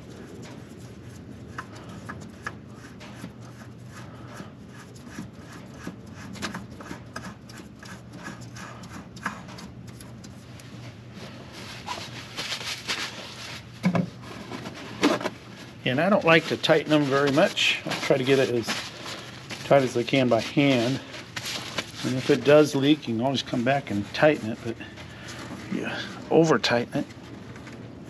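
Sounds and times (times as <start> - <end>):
glove rubbing on metal: 0.0 - 26.8.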